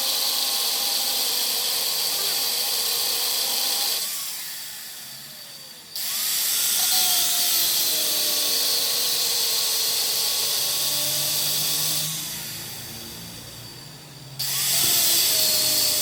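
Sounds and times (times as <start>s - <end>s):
power tool whining: 0.0s - 16.0s.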